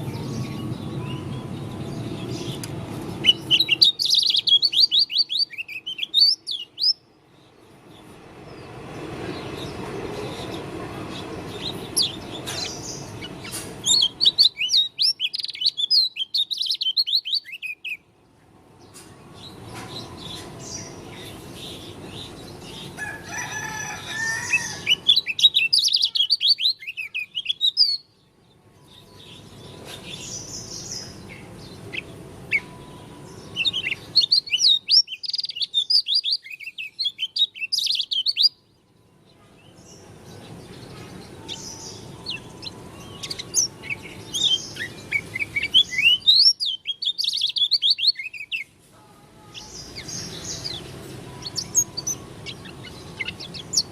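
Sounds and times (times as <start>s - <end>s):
bird twittering song: 0.0s - 38.7s, 39.6s - 48.7s, 49.6s - 53.9s.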